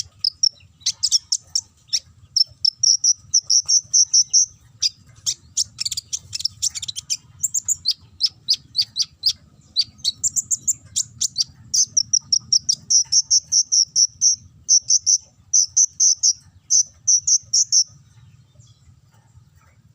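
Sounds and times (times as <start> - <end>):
sunbird singing rapid high song: 0.0 - 19.9.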